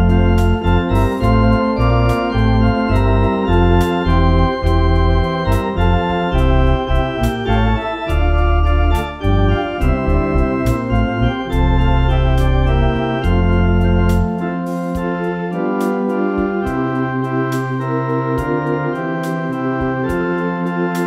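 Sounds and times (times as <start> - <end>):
electronic organ playing a hymn: 0.0 - 21.0.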